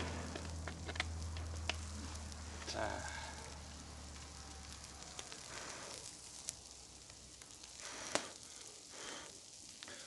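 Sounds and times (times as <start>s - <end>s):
meat sizzling on hot stones: 0.0s - 10.0s.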